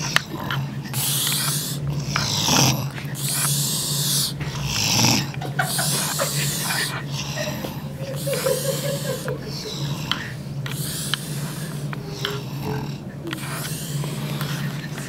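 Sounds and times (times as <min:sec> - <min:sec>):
man snoring: 0:00.0 - 0:15.0
steady low hum: 0:00.0 - 0:15.0.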